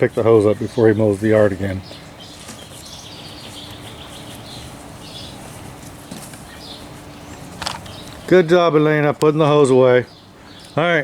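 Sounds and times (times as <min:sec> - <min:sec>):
distant birds chirping: 0:00.0 - 0:11.0
steady low hum: 0:00.0 - 0:11.0.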